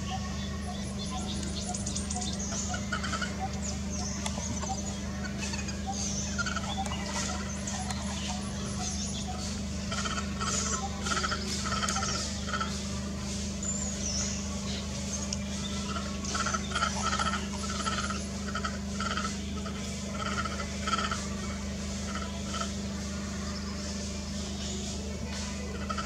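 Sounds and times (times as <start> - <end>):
repeating animal call: 0.0 - 26.0
steady low hum: 0.0 - 26.0.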